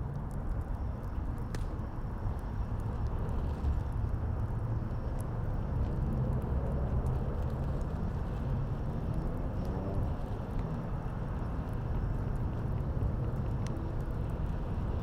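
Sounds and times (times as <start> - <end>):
city traffic rumble: 0.0 - 15.0
fire crackling: 0.0 - 15.0
wind: 0.0 - 15.0.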